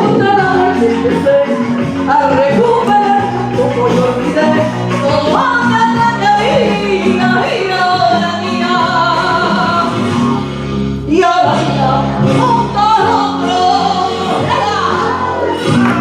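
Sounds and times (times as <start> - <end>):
woman singing: 0.0 - 10.0, 11.1 - 16.0
instrumental accompaniment: 0.0 - 16.0.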